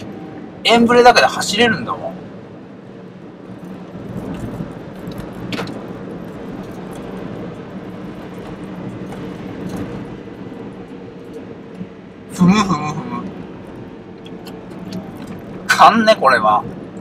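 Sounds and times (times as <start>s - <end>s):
road and wind noise: 0.0s - 17.0s
vehicle engine running: 2.3s - 17.0s.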